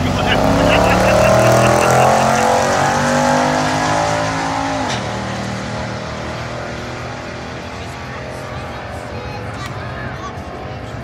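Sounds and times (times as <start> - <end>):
car engines accelerating hard: 0.0 - 11.0.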